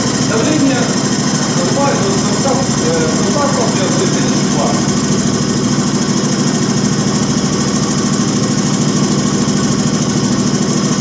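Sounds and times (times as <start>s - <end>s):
loud even machine hum: 0.0s - 11.0s.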